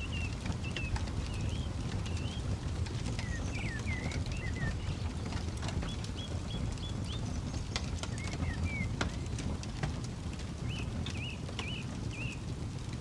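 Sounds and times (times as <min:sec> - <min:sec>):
small birds chirping: 0:00.0 - 0:09.7, 0:10.4 - 0:12.6
campfire crackling: 0:00.0 - 0:13.0
low rumble of fire: 0:00.0 - 0:13.0.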